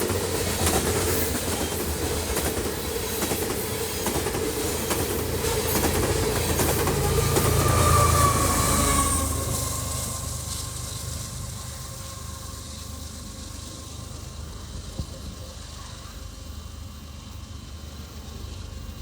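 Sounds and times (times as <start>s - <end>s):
low train rumble: 0.0s - 19.0s
train wheel squeal: 0.0s - 19.0s.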